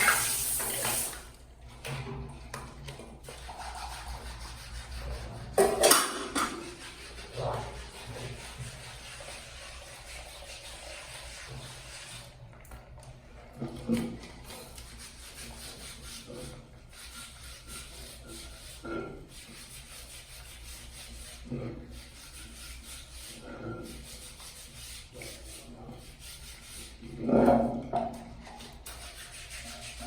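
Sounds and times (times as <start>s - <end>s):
scrubbing against a surface: 3.2s - 12.4s, 13.8s - 27.3s, 28.1s - 30.0s.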